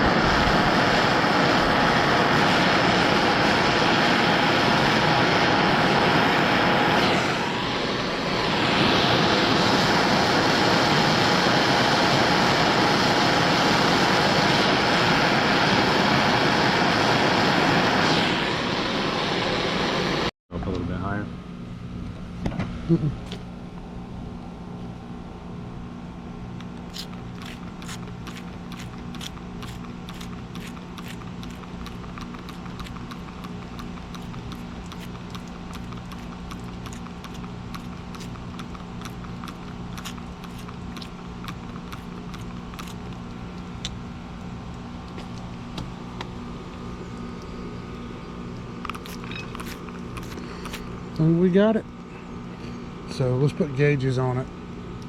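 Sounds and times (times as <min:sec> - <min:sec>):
air-conditioning hum: 0:00.0 - 0:55.0.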